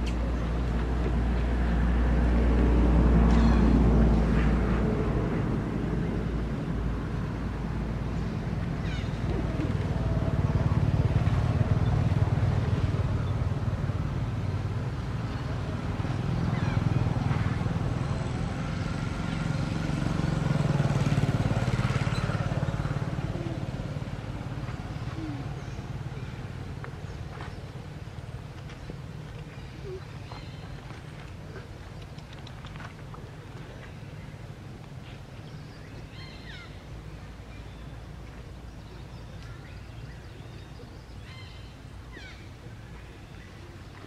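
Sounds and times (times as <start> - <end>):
vehicles passing rumble: 0.0 - 44.0.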